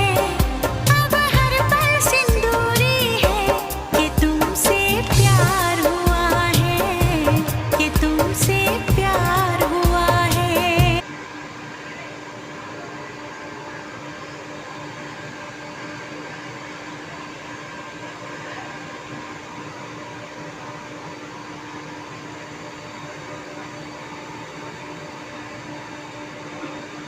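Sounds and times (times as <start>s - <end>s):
low machinery hum: 0.0s - 27.0s.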